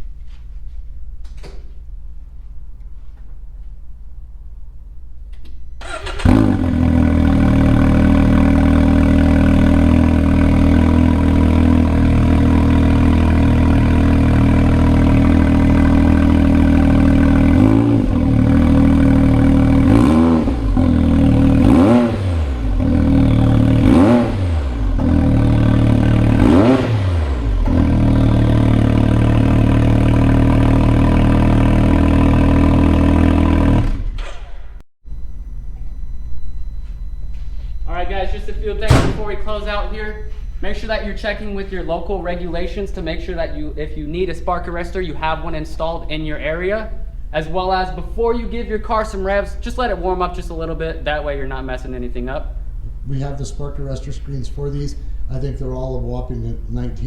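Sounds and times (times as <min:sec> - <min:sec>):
engine throttle blips: 0:00.0 - 0:57.0
engine idling: 0:05.8 - 0:34.7, 0:38.0 - 0:57.0.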